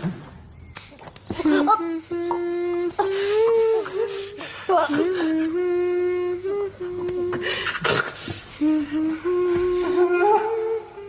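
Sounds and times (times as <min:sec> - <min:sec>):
person humming slow melody: 0:01.4 - 0:11.0.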